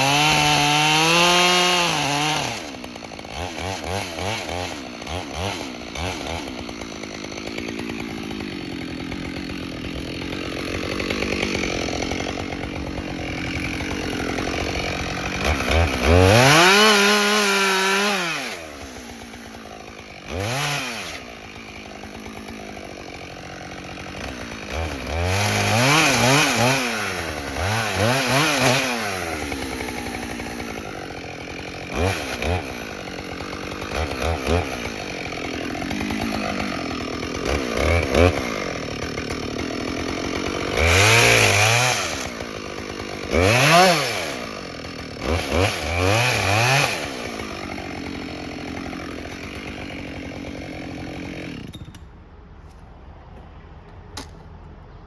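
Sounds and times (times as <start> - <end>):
chainsaw idling and revving: 0.0 - 52.0.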